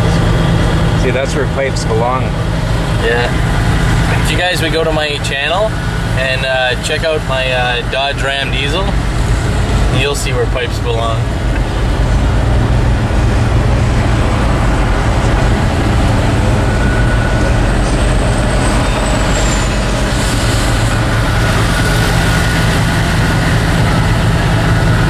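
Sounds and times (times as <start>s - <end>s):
engine hum: 0.0s - 25.0s
road noise: 0.0s - 25.0s.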